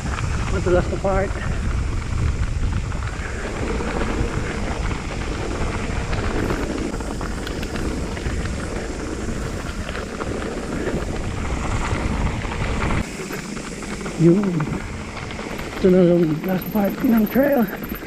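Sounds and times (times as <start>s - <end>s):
bike rattling and clicking: 0.0s - 18.0s
tyres rumbling on dirt: 0.0s - 18.0s
wind buffeting microphone: 0.0s - 18.0s.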